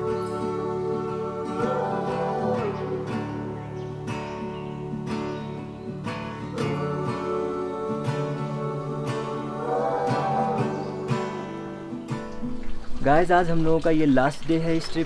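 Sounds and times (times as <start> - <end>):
sustained music chords: 0.0 - 12.4.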